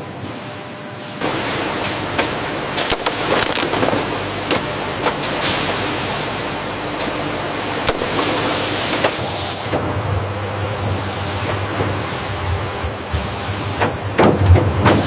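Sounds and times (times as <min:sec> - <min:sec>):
factory machinery hiss and whine: 0:00.0 - 0:15.0.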